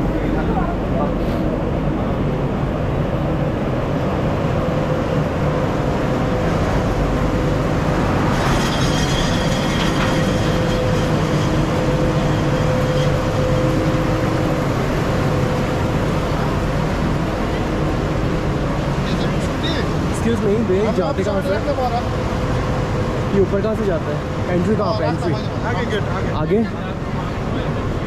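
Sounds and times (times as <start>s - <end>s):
vehicle engine rumble: 0.0s - 28.0s.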